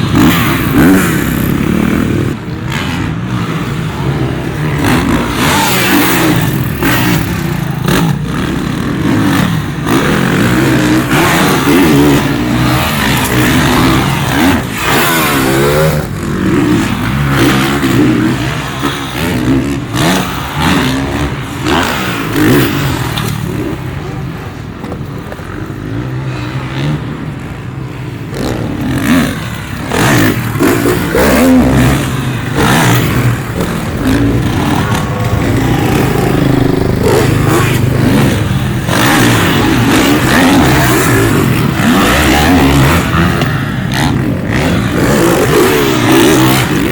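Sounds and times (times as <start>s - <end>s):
dirt bikes revving: 0.0s - 46.9s.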